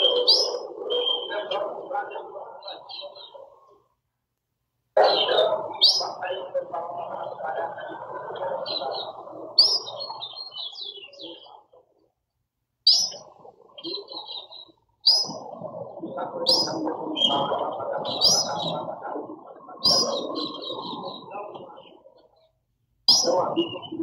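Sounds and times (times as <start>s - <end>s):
birds chirping and chattering: 0.0s - 3.9s, 5.0s - 12.2s, 12.8s - 24.0s.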